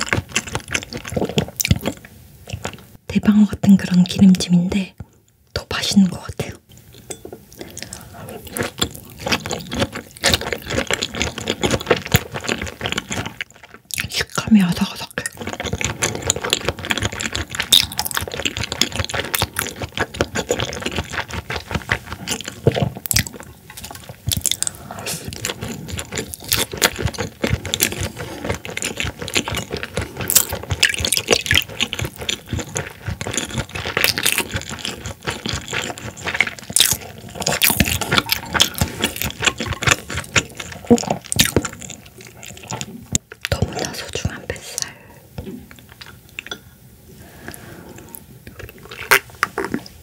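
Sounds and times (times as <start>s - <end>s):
wet crunchy chewing: 0.0s - 2.9s, 7.6s - 46.6s, 47.2s - 49.9s.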